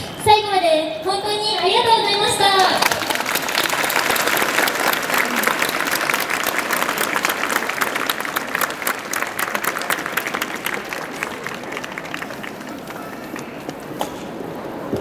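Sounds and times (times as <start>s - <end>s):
audience applauding: 1.5s - 13.8s.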